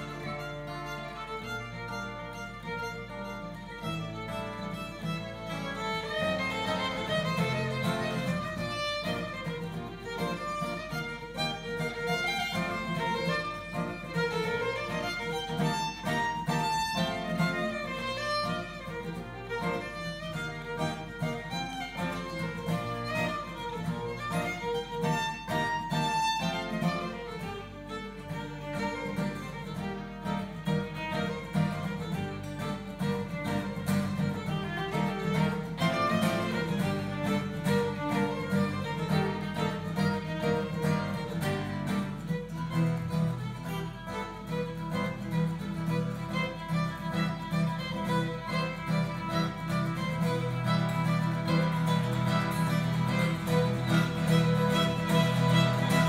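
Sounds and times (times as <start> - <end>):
acoustic guitar accompaniment: 0.0 - 56.0
bowed violin: 0.0 - 56.0.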